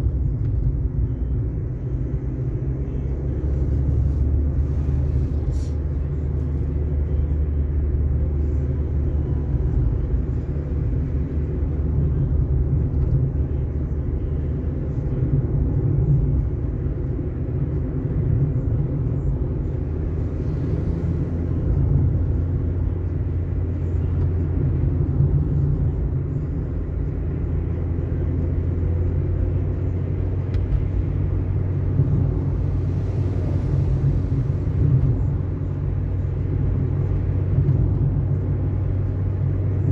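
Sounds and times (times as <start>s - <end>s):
car driving on asphalt: 0.0s - 39.9s.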